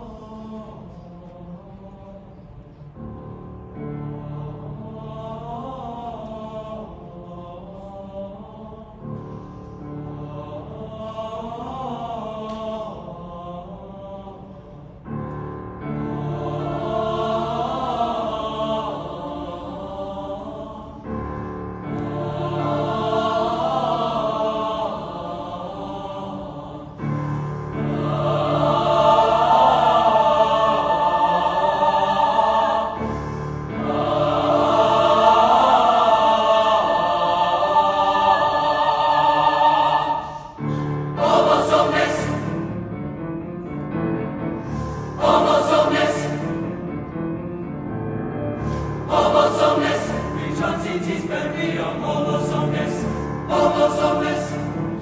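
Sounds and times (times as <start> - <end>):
choir singing sustained chords: 0.0 - 55.0.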